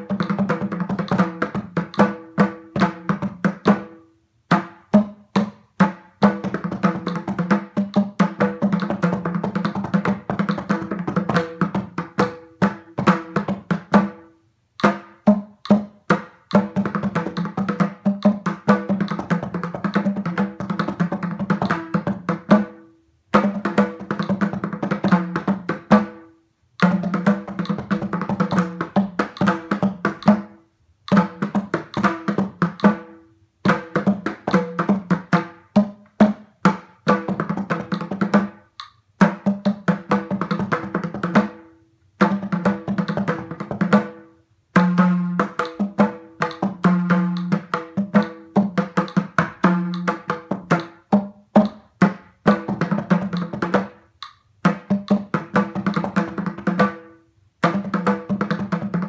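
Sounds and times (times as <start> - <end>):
drum played in fast runs: 0.0 - 3.9, 4.5 - 22.8, 23.4 - 26.2, 26.8 - 38.6, 39.2 - 41.6, 42.2 - 44.2, 44.8 - 54.0, 54.6 - 59.0.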